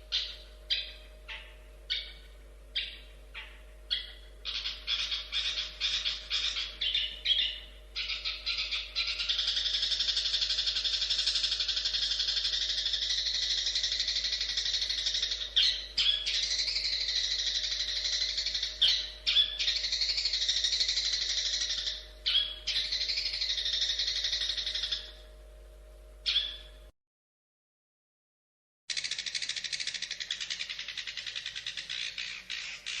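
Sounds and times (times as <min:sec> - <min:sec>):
bird chattering warble: 0:00.0 - 0:25.2, 0:26.2 - 0:26.8, 0:28.9 - 0:33.0.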